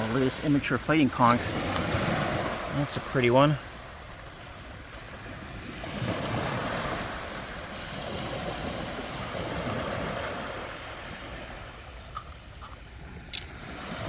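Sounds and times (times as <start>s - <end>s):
small surf washing over sand: 0.0s - 14.0s.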